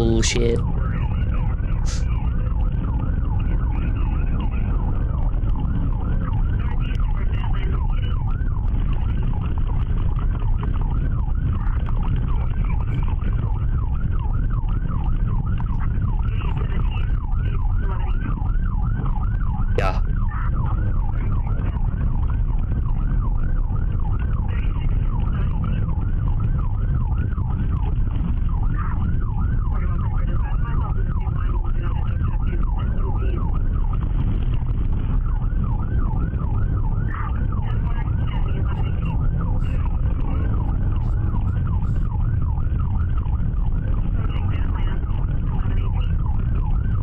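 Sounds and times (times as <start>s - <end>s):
low engine rumble: 0.0s - 47.0s
police siren yelping: 0.0s - 47.0s.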